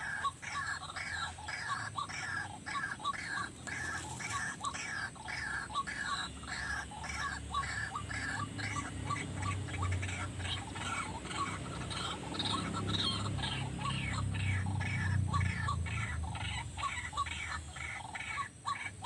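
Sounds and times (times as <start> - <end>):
waterhen croaking calls: 0.0 - 19.0.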